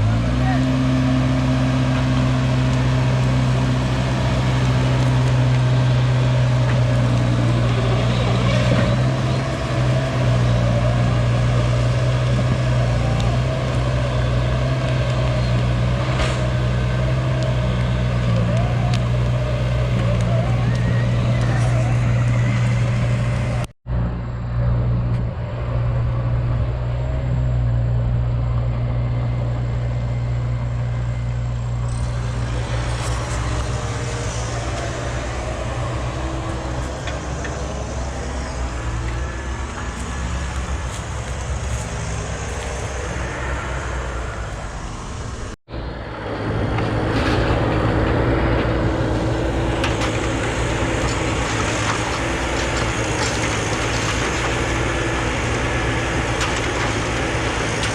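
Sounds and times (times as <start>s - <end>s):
diesel machinery humming: 0.0s - 57.9s.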